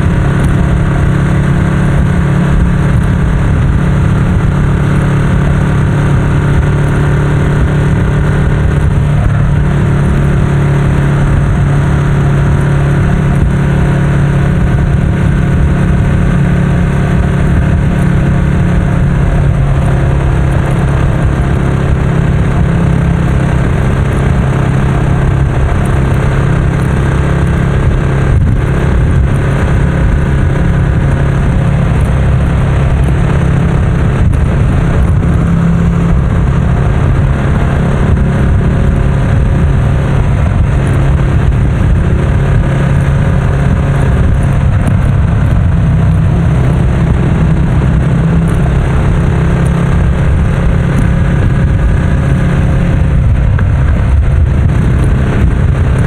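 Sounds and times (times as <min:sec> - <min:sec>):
motorcycle exhaust drone: 0:00.0 - 0:56.0.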